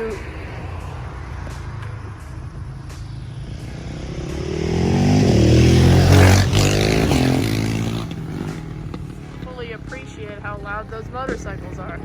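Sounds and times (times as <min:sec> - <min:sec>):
motorcycle passing by: 0:00.0 - 0:12.0.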